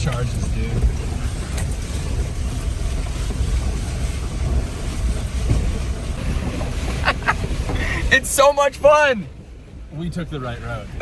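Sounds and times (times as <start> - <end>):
engine and tyres rumbling: 0.0 - 11.0
wind buffeting microphone: 0.0 - 11.0.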